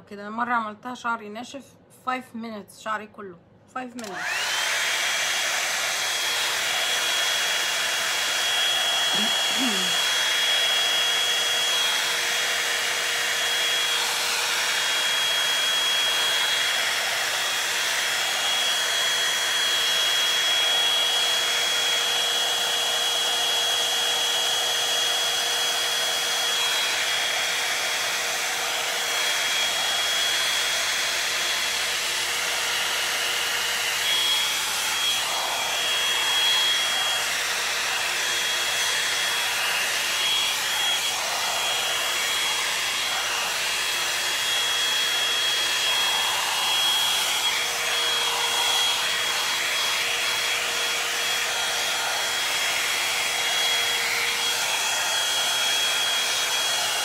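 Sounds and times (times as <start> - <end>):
hot-air brush blowing with whine: 4.0 - 57.0.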